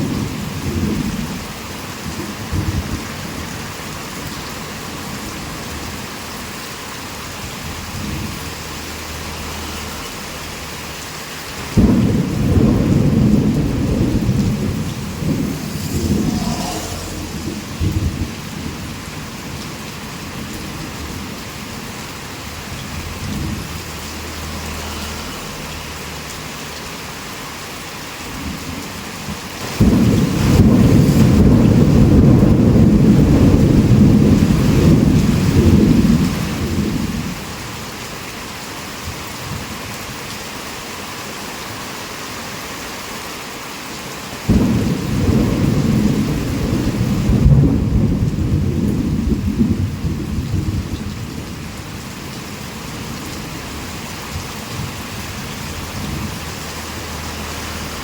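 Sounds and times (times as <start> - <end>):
thunder rumbling: 0.0 - 26.0, 28.2 - 37.6, 44.5 - 58.0
heavy rain: 0.0 - 58.0.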